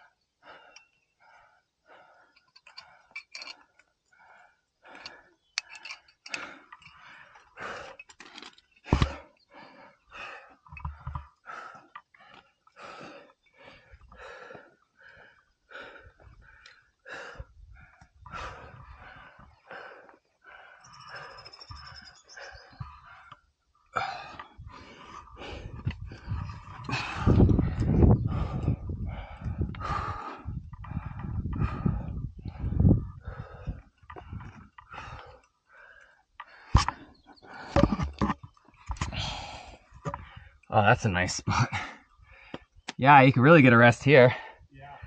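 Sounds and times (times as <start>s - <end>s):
person breathing hard: 0.0s - 8.1s, 8.8s - 38.3s, 39.0s - 40.7s, 41.7s - 42.8s, 44.4s - 45.0s.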